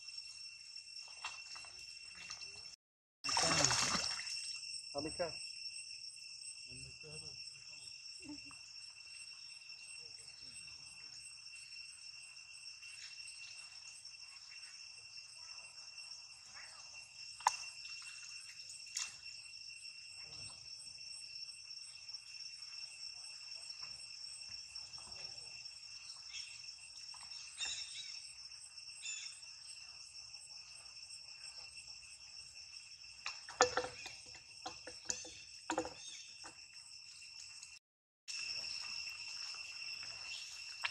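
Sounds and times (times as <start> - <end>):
shrill insect chorus: 0.0 - 40.9.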